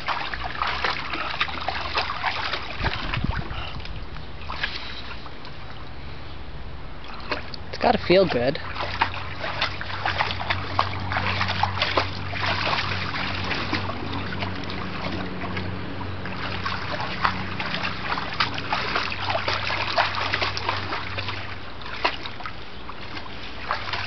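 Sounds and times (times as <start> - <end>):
dog splashing in shallow water: 0.0 - 5.7, 7.0 - 24.0.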